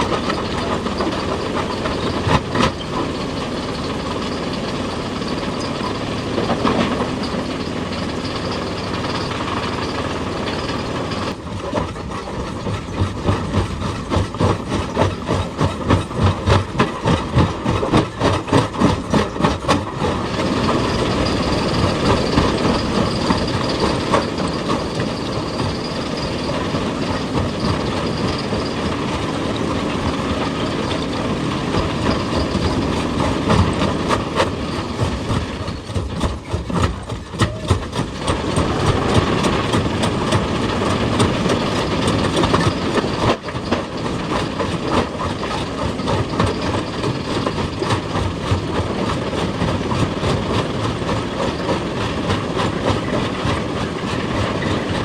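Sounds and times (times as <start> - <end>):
heavy machinery running: 0.0 - 55.0
rhythmic machine knocking: 7.6 - 55.0.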